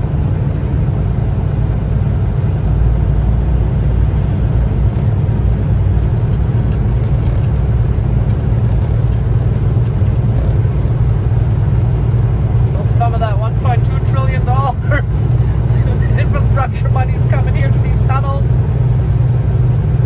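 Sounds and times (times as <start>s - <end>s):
truck engine and road drone: 0.0s - 20.0s.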